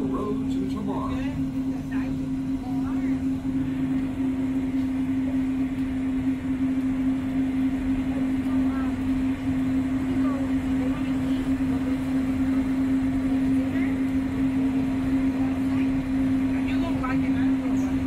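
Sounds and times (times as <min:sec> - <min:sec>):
monorail train hum: 0:00.0 - 0:18.0.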